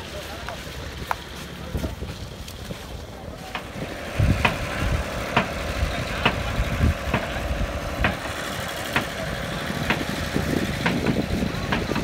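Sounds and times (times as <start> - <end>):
engine running low rumble: 0.0 - 12.0.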